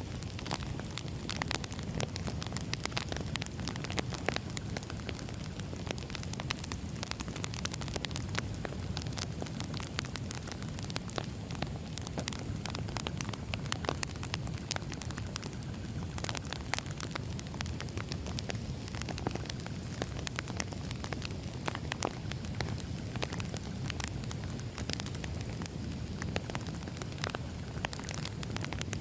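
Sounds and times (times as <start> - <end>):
crackling wood fire: 0.0 - 29.0
low rumble of flames: 0.0 - 29.0.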